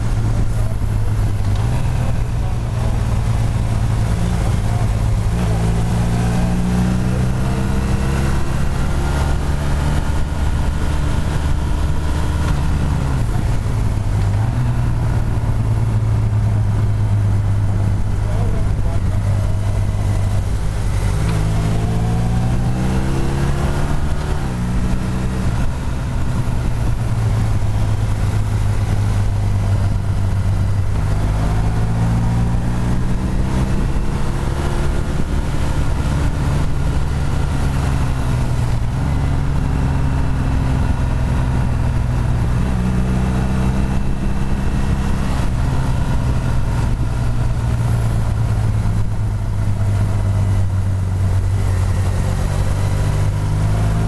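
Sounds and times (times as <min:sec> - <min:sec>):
motorcycle engine accelerating: 0:00.0 - 0:54.0
wind noise: 0:00.0 - 0:54.0.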